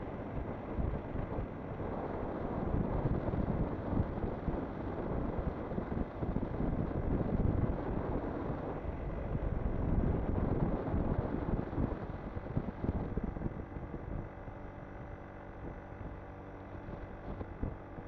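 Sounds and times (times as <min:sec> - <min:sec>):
wind buffeting microphone: 0:00.2 - 0:18.0.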